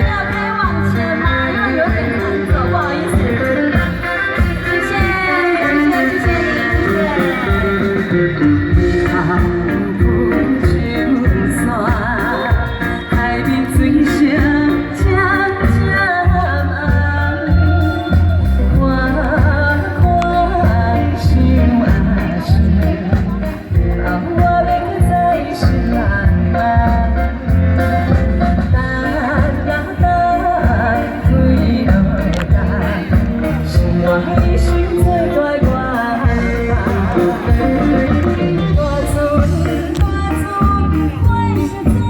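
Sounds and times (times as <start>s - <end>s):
instrumental accompaniment with bass: 0.0s - 42.0s
woman singing: 0.0s - 42.0s.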